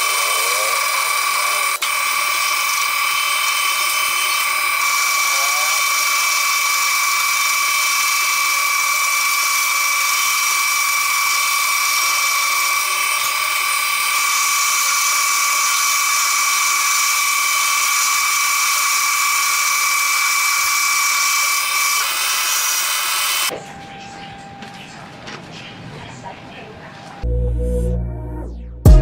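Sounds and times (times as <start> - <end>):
metal lathe cutting whine: 0.0 - 24.5.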